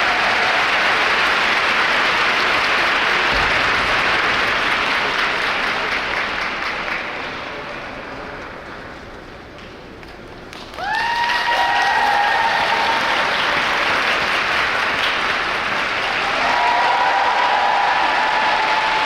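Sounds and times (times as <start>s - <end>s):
large audience applauding: 0.0s - 8.8s, 10.5s - 19.0s.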